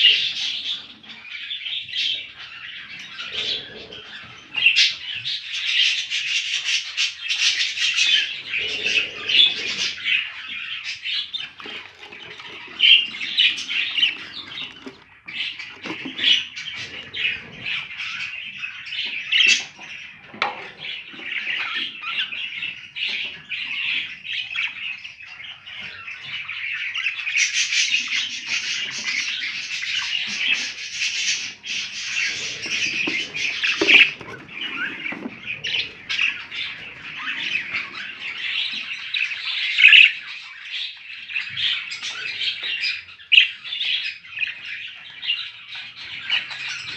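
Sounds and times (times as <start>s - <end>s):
budgerigars chattering and squawking: 0.0s - 46.9s.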